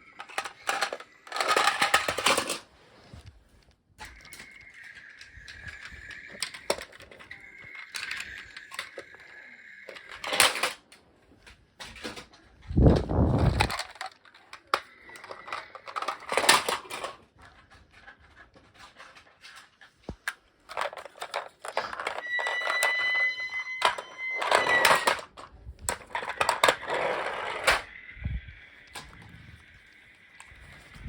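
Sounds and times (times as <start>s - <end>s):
plastic toy trucks rattling: 0.0s - 3.2s, 4.0s - 31.0s.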